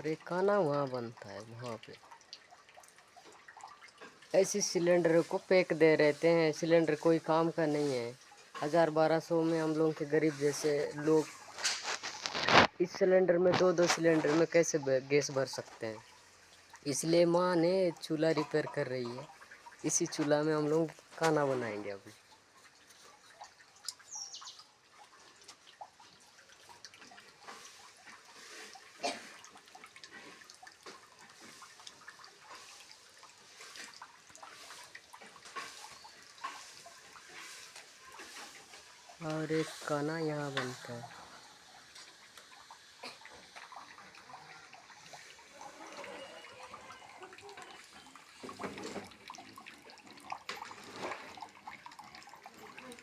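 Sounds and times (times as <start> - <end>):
wet splashing and dripping: 0.0 - 53.0.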